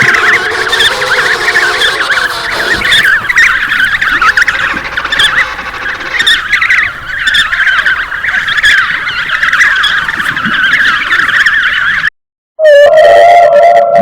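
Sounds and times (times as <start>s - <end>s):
animal colony squealing and chirping: 0.0s - 12.1s.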